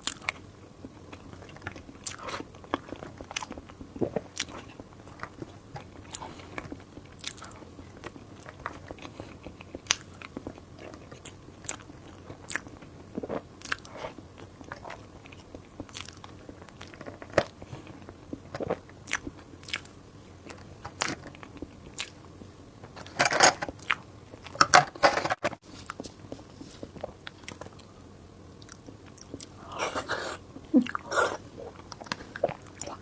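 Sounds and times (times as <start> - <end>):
chewing and crunching: 0.0 - 24.7, 25.7 - 28.0, 28.6 - 29.9, 30.6 - 33.0.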